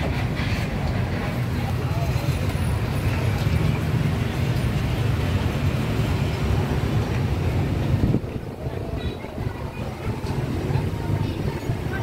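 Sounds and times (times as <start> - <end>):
street market rumble: 0.0 - 12.0.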